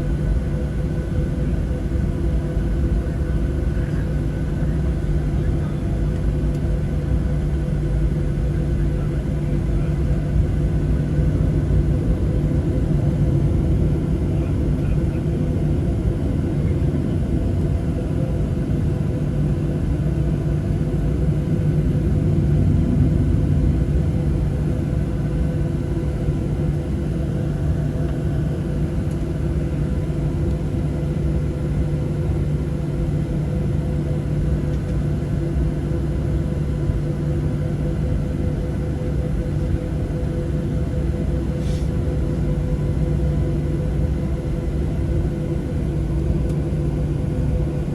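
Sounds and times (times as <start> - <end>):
jet engine rumble: 0.0 - 47.9
steady cabin hum: 0.4 - 47.9.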